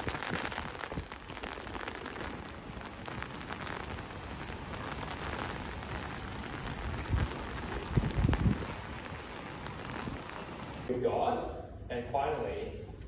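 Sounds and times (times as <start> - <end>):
rain on stone paving: 0.0 - 10.9.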